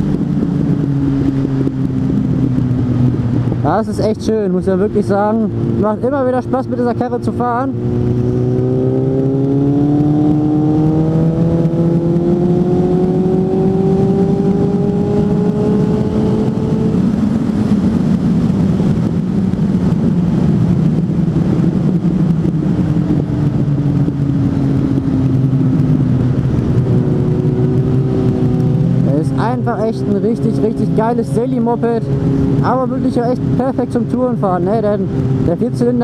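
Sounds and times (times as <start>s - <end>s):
motorcycle engine under way: 0.0s - 36.0s
wind noise rushing: 0.0s - 36.0s.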